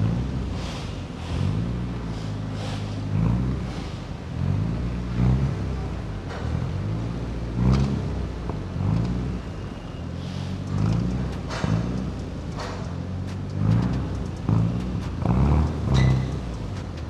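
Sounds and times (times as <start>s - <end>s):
turbocharged car engine revving: 0.0s - 17.0s.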